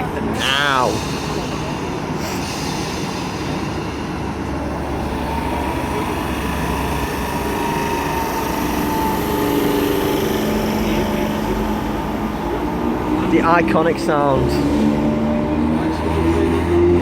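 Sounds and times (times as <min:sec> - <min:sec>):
electric train rumbling: 0:00.0 - 0:17.0
traction motors whining: 0:00.0 - 0:17.0.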